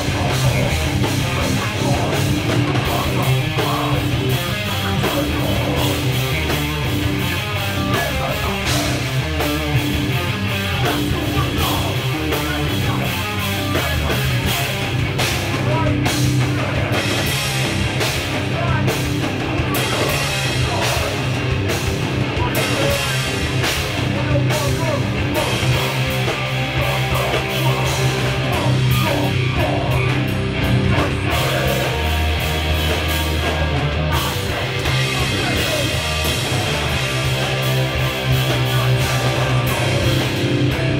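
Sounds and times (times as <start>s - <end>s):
bass guitar: 0.0s - 40.9s
distorted electric guitars: 0.0s - 40.9s
pounding drum kit: 0.0s - 40.9s.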